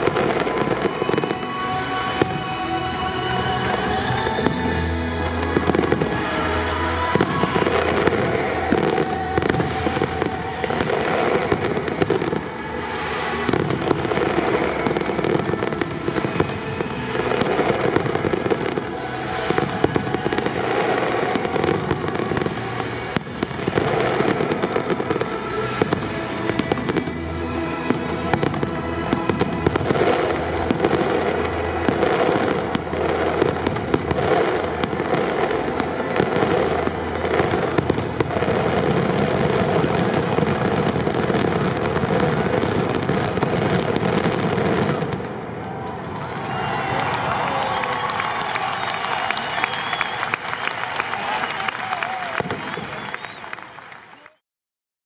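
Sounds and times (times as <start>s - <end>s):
fireworks bangs and crackling: 0.0s - 54.3s.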